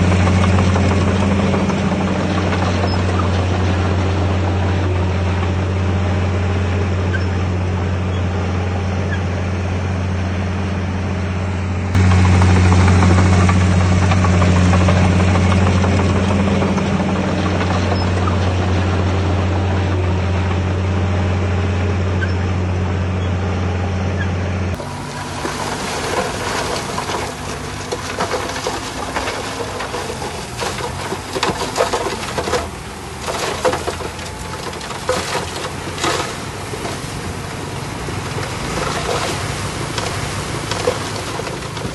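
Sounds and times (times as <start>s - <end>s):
rough clatter with knocks and scraping: 0.0s - 7.5s, 11.9s - 21.3s, 24.2s - 41.9s
diesel earthmoving machinery running: 0.0s - 41.9s.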